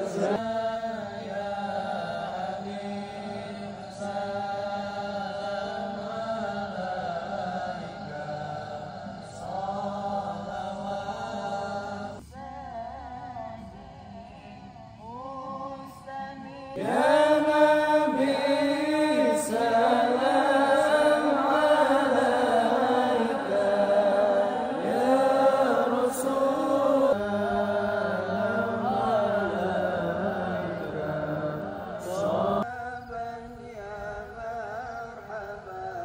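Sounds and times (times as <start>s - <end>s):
men chanting together: 0.0s - 36.0s.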